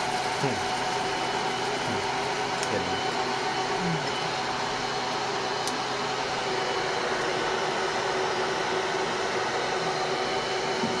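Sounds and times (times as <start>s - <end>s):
cooling fan rushing air: 0.0s - 11.0s.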